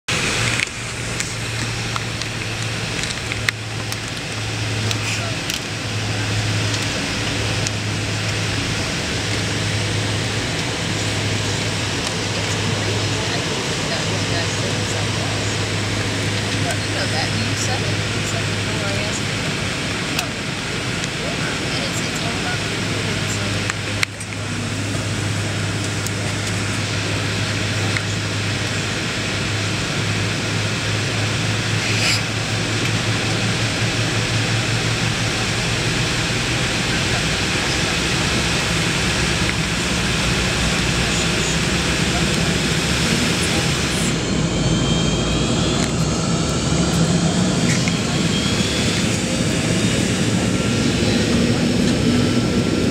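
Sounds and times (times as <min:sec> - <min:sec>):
constant low hum: 0:00.1 - 0:52.9
jet engine and airflow in cabin: 0:00.1 - 0:52.9.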